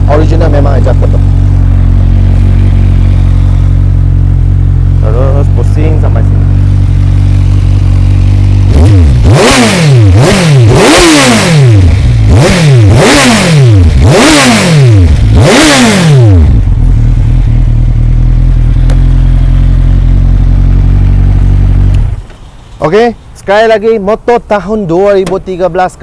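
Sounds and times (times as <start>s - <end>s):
motorcycle engine revving: 0.0s - 23.1s
motorcycle engine idling: 0.0s - 23.4s.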